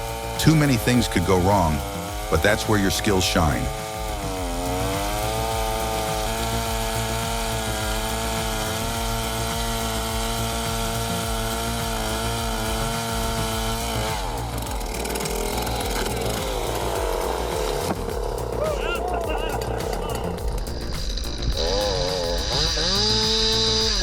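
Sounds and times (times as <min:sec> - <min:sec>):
chainsaw running at high revs: 0:00.0 - 0:24.0.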